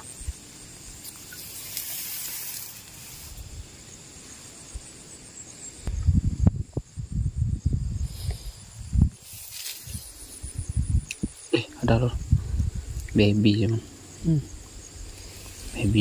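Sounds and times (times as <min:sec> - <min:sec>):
faint insect trill: 0:00.0 - 0:16.0.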